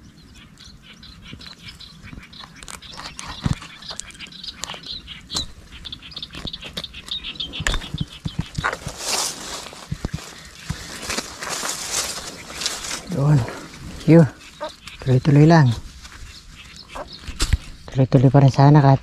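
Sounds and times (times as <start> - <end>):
dry grass rustling and crackling: 0.6 - 19.0.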